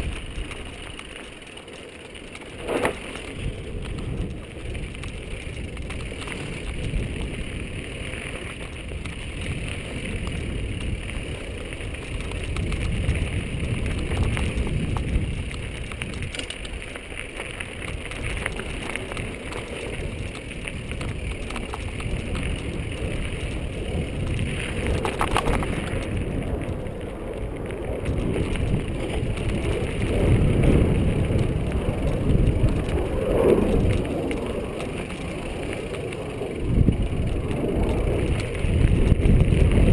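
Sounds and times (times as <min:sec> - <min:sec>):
bike rattling: 0:00.0 - 0:39.9
bike tyres crunching on dirt: 0:00.0 - 0:39.9
wind rumbling on microphone: 0:00.0 - 0:39.9.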